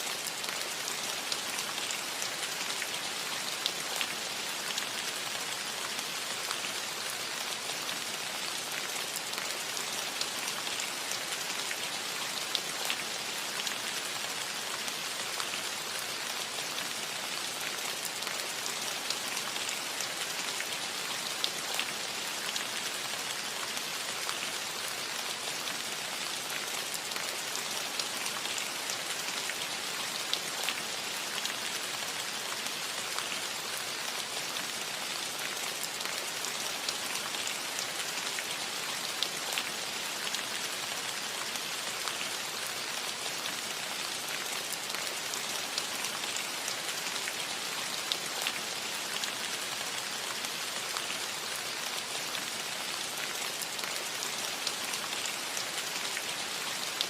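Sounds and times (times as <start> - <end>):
rain on a metal roof: 0.0 - 57.0.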